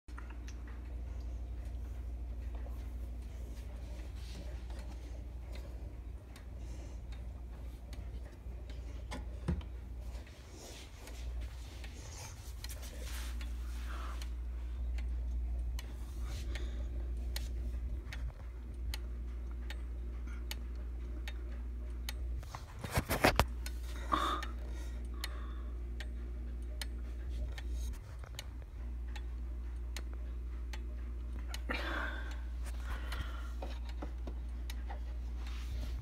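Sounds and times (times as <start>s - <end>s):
pendulum clock ticking: 0.1s - 22.5s, 23.4s - 35.6s.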